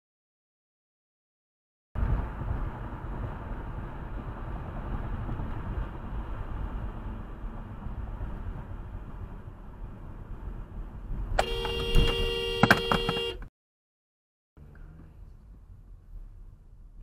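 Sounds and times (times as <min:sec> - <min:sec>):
car road and engine noise: 0:02.0 - 0:13.5, 0:14.6 - 0:17.0.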